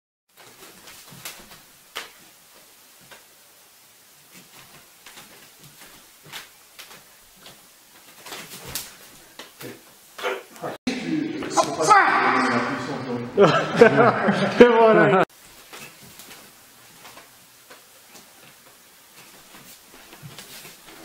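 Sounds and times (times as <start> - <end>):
steady hiss: 0.3 - 14.6, 15.3 - 21.0.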